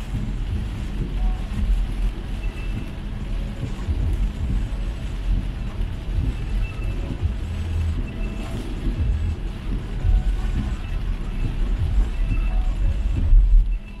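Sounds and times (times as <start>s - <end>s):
car rumbling on wet road: 0.0s - 14.0s
heavy rain on a car: 0.0s - 14.0s.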